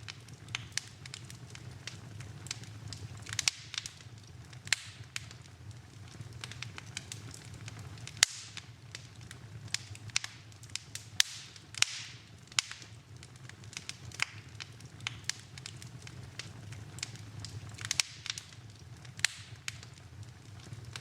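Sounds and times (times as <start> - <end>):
low rush of flames: 0.0 - 21.0
sharp fire pops: 0.0 - 21.0
wood fire crackling: 0.0 - 21.0.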